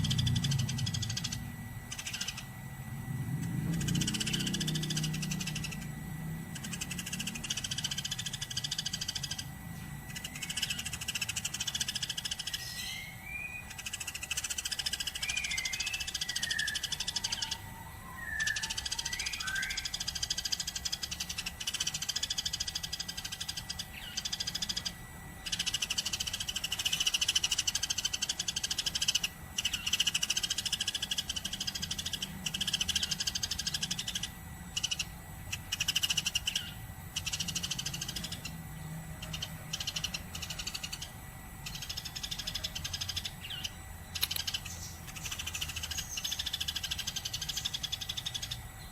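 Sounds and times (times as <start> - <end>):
sparrows chirping: 0.0 - 48.9.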